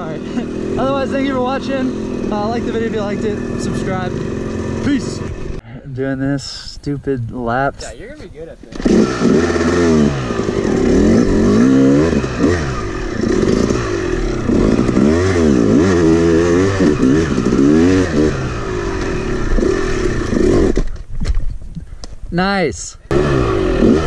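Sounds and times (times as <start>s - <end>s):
dirt bike engine revving: 0.0s - 5.6s, 8.0s - 21.0s, 23.1s - 24.0s.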